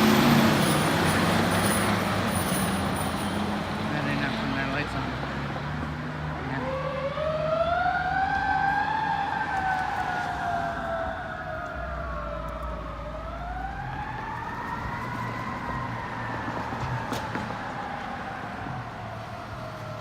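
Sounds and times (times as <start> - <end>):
fire engine siren wailing: 0.0 - 20.0
truck engine rumble: 0.0 - 20.0.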